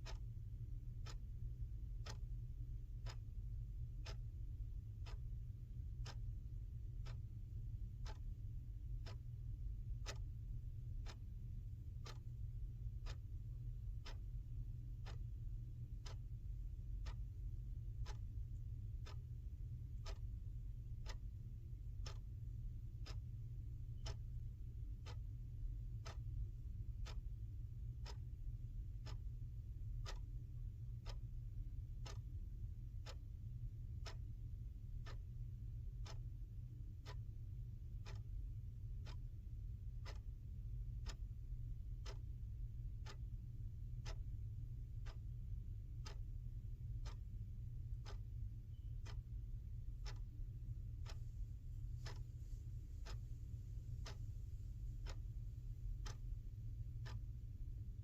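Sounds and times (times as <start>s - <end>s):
clock ticking: 0.0s - 58.0s
steady low hum: 0.0s - 58.0s.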